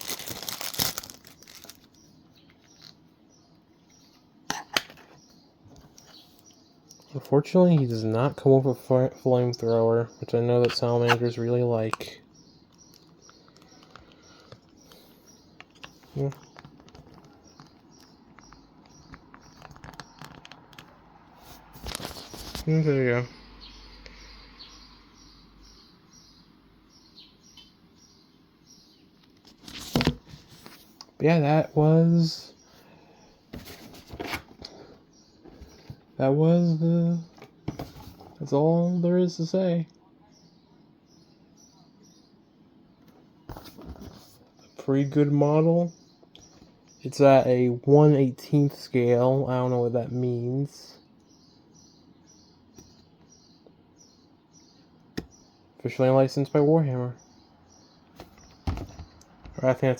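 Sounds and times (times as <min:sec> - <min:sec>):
faint bird chirping: 0:00.0 - 0:59.9.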